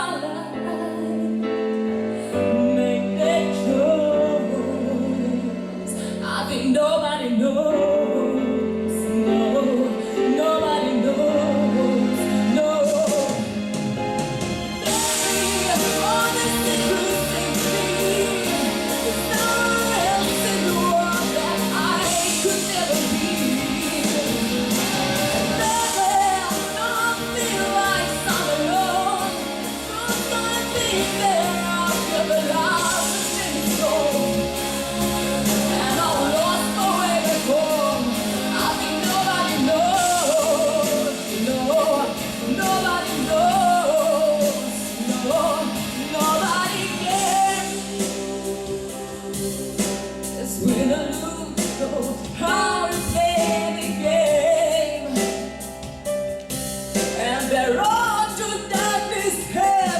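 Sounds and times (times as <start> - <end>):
girl singing a pop ballad: 0.0 - 13.7, 14.8 - 59.9
instrumental accompaniment: 0.0 - 59.9.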